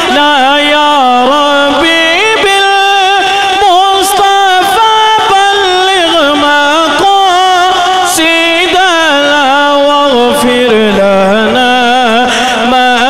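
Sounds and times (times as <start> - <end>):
person singing long wavering notes: 0.0 - 13.0.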